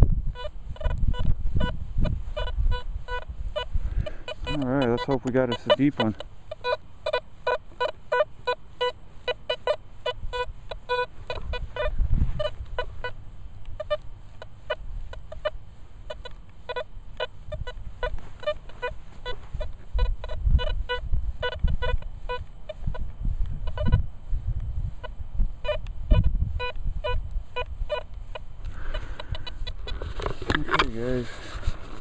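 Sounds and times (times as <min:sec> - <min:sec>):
metal detector rapid beeps: 0:00.3 - 0:13.2, 0:13.8 - 0:23.0, 0:23.6 - 0:24.1, 0:25.0 - 0:31.2.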